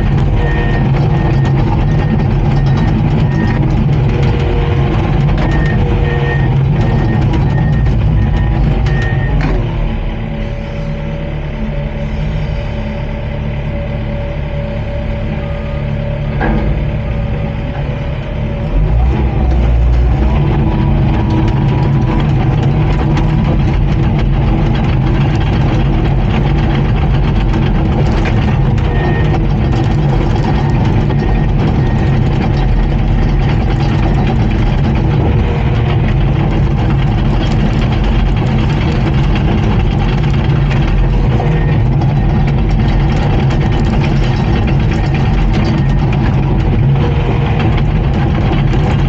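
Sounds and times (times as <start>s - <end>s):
bulldozer diesel engine running: 0.0s - 49.0s.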